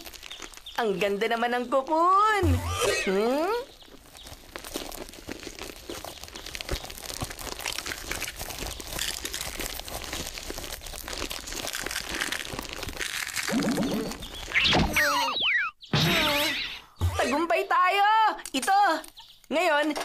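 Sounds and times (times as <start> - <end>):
cocoon crackling and crunching: 0.0 - 15.4, 18.4 - 20.0.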